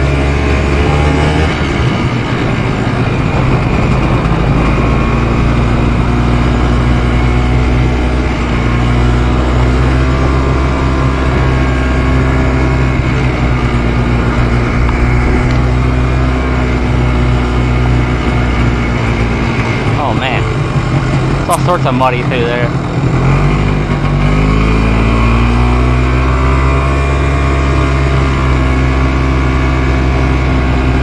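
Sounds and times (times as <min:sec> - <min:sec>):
quad bike engine running: 0:00.0 - 0:31.0.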